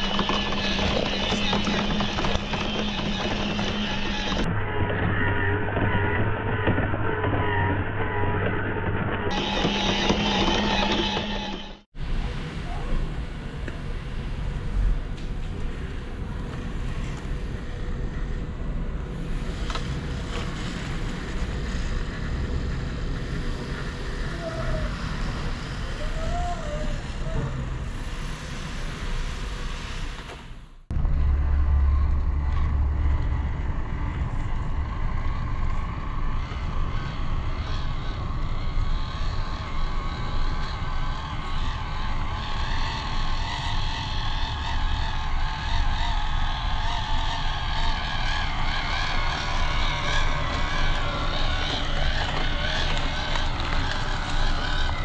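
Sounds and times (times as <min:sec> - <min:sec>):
low rumble: 0:00.0 - 0:55.0.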